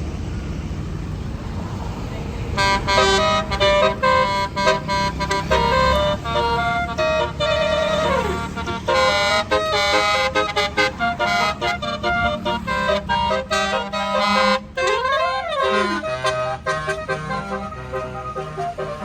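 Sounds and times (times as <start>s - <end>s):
bus horn playing a melody: 2.6s - 19.0s.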